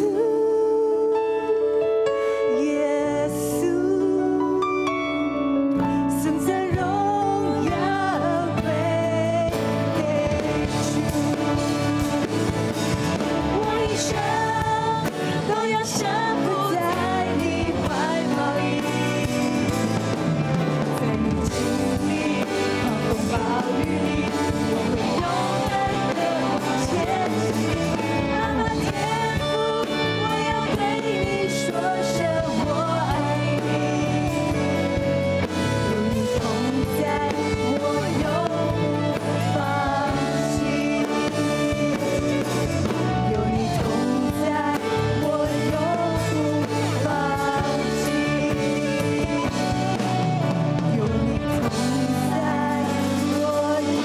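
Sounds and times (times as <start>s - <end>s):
woman singing worship song: 0.0s - 4.7s, 5.7s - 54.0s
keyboard accompaniment: 0.0s - 54.0s.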